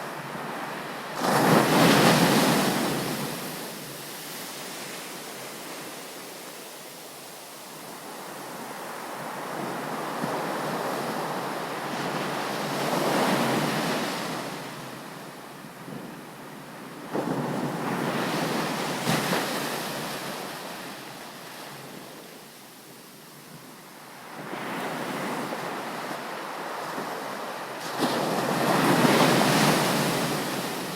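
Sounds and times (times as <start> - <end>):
waves breaking on shore: 0.0 - 15.0, 17.1 - 22.3, 24.2 - 30.9.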